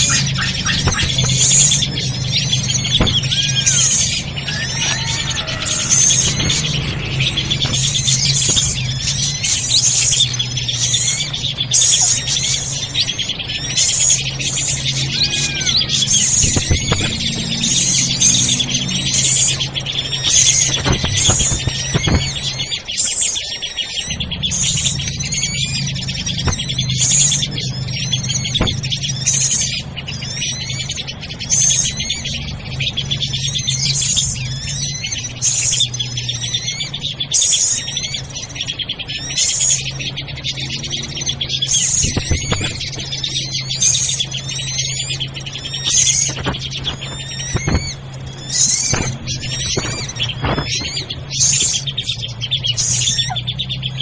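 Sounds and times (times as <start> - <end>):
drongos chirping and chattering: 0.0 - 54.0
harsh high bird call: 0.0 - 54.0
low steady hum: 0.0 - 54.0.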